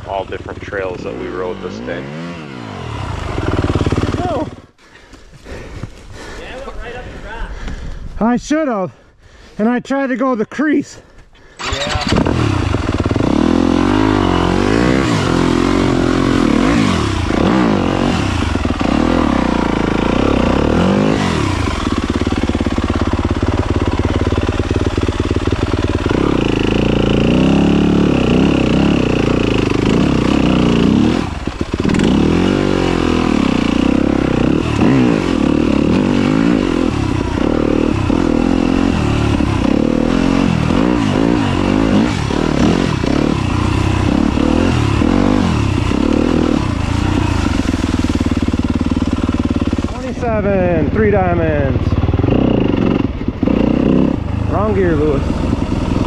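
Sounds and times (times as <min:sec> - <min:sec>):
dirt bike engine revving: 0:00.0 - 0:04.8, 0:11.6 - 0:56.0.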